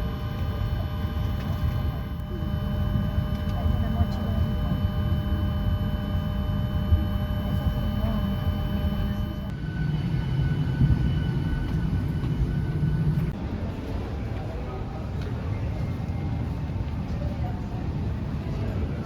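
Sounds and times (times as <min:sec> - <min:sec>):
jet engine and cabin noise: 0:00.0 - 0:19.0.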